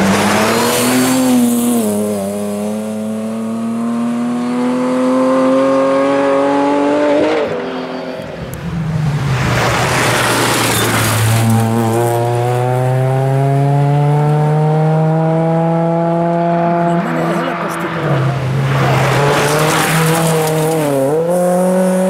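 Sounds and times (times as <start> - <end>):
rally car engine pulling hard: 0.0 - 22.0.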